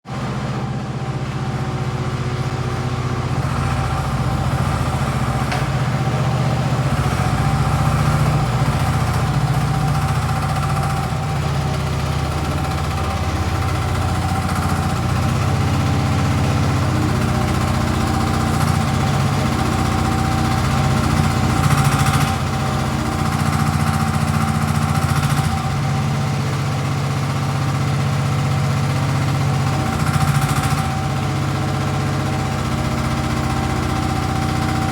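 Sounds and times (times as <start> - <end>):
excavator engine idling: 0.1 - 34.9.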